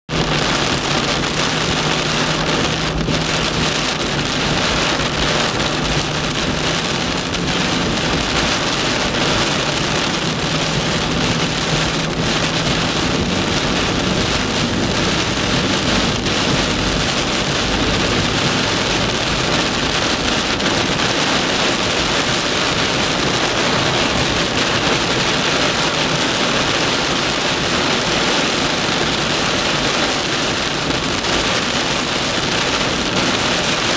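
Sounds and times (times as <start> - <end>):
heavy rain on car roof: 0.1 - 33.9.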